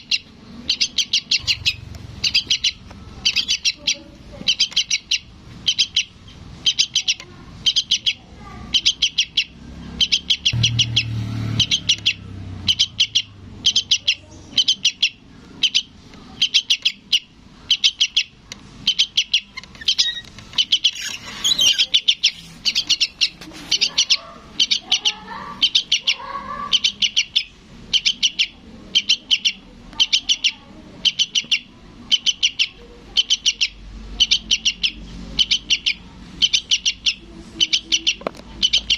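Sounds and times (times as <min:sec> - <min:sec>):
fledgling bird begging chirps: 0:00.0 - 0:38.9.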